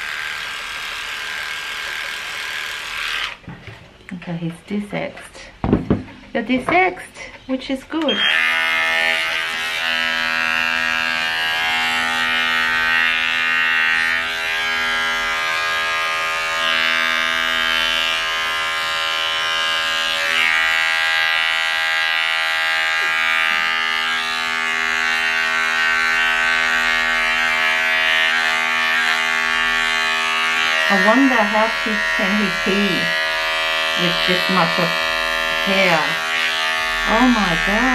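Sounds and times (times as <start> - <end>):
electric clippers humming: 0.0 - 3.5, 8.0 - 37.9.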